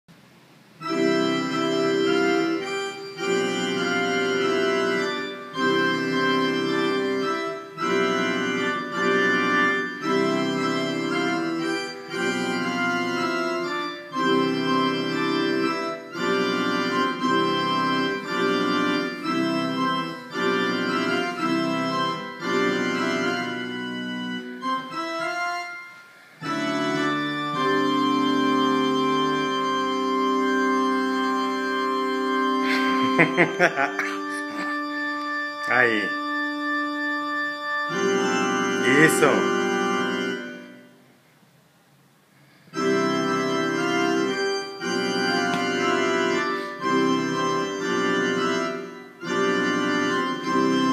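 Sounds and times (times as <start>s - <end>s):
organ-like keyboard chords: 0.6s - 41.1s, 42.5s - 50.9s.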